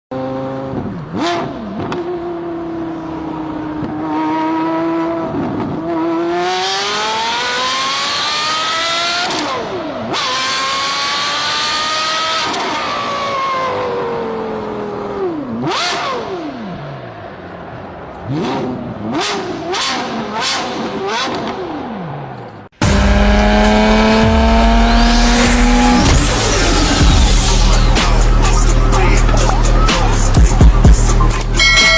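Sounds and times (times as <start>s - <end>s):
sports car engine accelerating: 0.1s - 31.9s
engine sharp rev: 2.7s - 22.1s, 22.8s - 31.9s.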